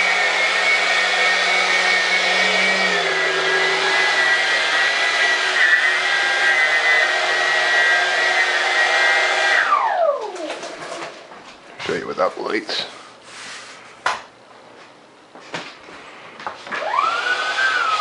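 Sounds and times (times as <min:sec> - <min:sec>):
electric ducted fan whining: 0:00.0 - 0:18.0.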